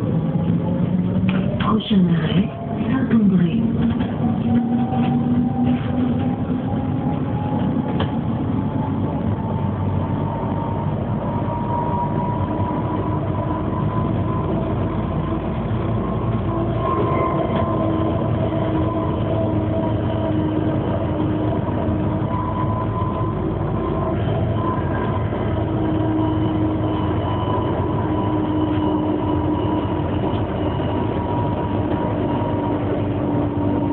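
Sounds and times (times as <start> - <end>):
constant rumble: 0.0 - 33.9
tram motor whine: 0.0 - 33.9.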